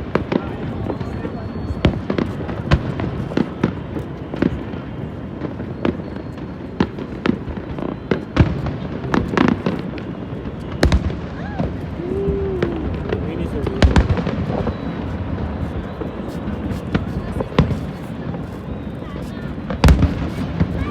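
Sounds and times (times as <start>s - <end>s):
fireworks bangs: 0.0s - 20.9s.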